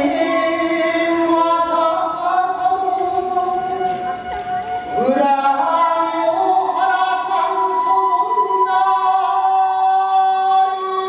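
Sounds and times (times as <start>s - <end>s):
chant in long held notes: 0.0s - 11.0s.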